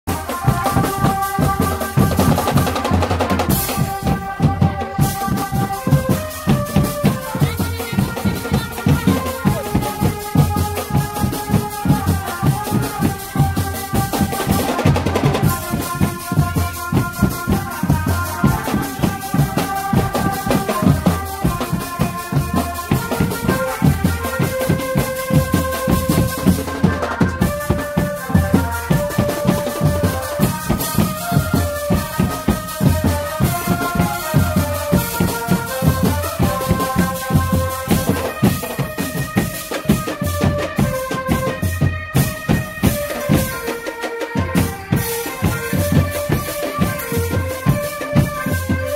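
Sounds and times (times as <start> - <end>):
marching snare and bass drums: 0.1 - 48.9
rattling percussion: 0.1 - 48.9.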